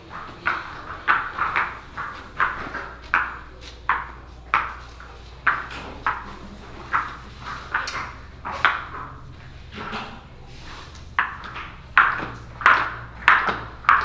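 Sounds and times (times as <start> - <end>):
footsteps on hard floor: 0.0 - 14.0.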